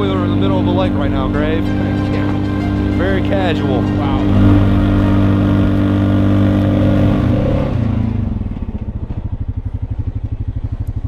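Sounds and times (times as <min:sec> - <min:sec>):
atv engine idling: 0:00.0 - 0:11.0
tracked vehicle engine running: 0:00.0 - 0:11.0.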